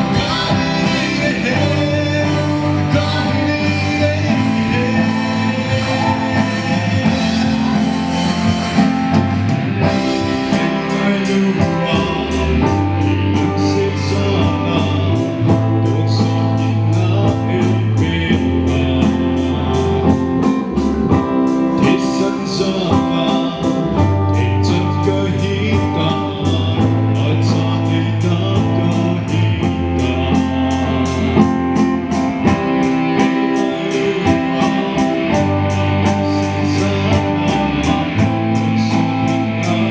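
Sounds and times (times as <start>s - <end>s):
live band with singer: 0.0s - 39.9s.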